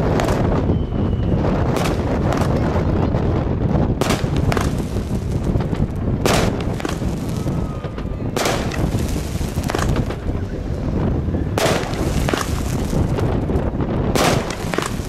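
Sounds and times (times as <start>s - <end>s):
firework bangs: 0.0s - 15.0s.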